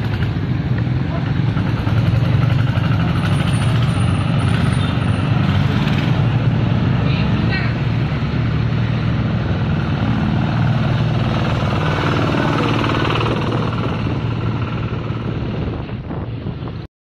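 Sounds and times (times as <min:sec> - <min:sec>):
diesel tractor engine running: 0:00.0 - 0:16.8.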